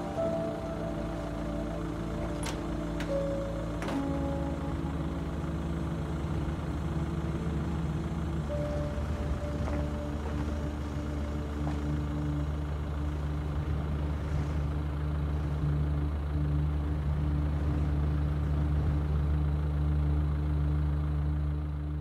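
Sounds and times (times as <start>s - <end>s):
low hum of held tones: 0.0s - 22.0s.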